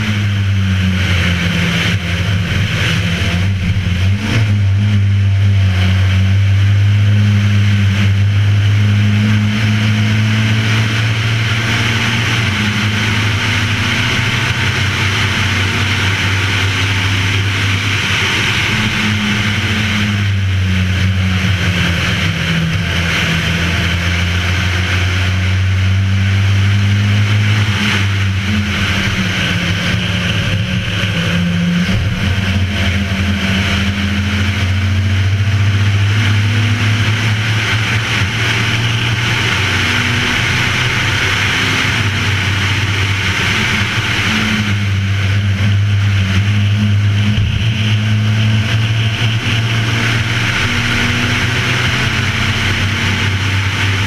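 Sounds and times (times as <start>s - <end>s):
race car engine running hard: 0.0s - 54.0s
road noise: 0.0s - 54.0s.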